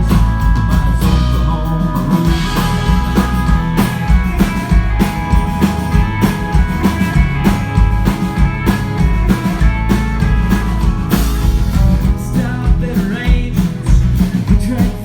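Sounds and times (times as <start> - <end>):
country rock band playing: 0.0 - 15.0
drum kit steady beat: 0.0 - 15.0.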